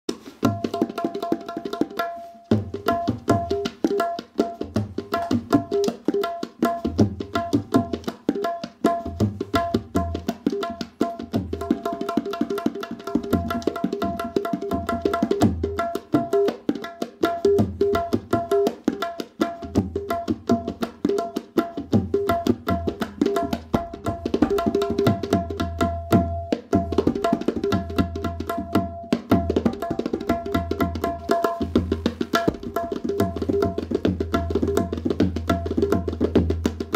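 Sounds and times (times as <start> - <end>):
tabla drumming: 0.1 - 36.9.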